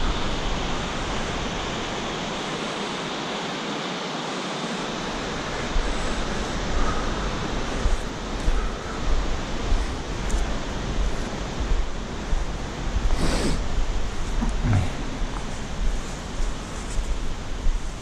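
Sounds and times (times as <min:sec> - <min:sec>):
wind buffeting microphone: 0:00.0 - 0:03.2, 0:04.8 - 0:18.0
river and waterfall rushing: 0:00.0 - 0:18.0.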